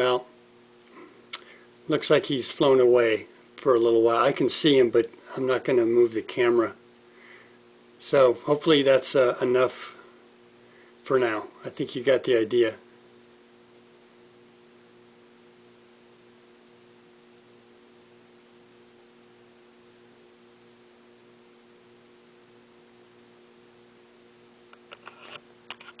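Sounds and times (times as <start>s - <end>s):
low hiss: 0.0s - 25.0s
faint electrical hum: 0.0s - 26.0s.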